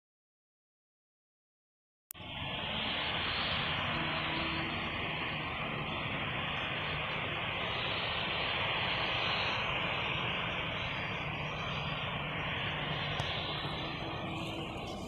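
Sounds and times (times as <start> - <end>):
jet engines rushing: 2.2 - 15.0.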